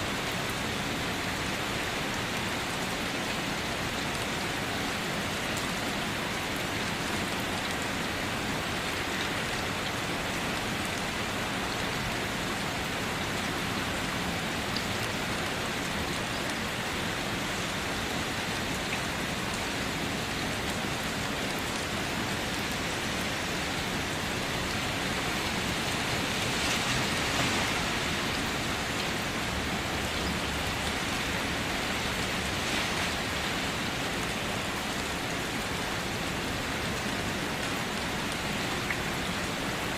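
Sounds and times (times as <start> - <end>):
rain pattering on a car: 0.1 - 39.9.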